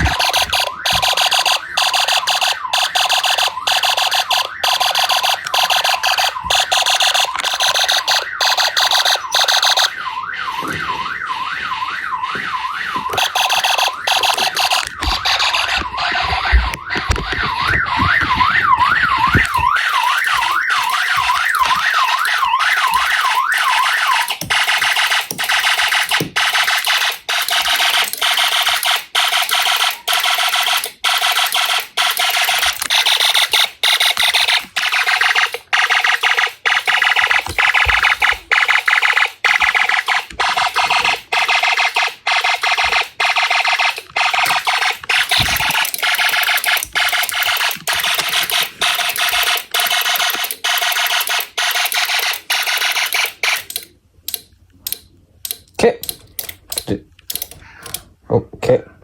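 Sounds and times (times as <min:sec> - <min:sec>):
harsh electronic alarm tone: 0:00.0 - 0:53.7.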